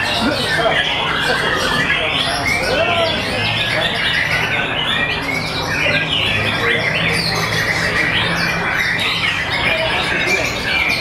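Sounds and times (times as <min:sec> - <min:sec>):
birds singing whistles and chirps: 0:00.0 - 0:11.0.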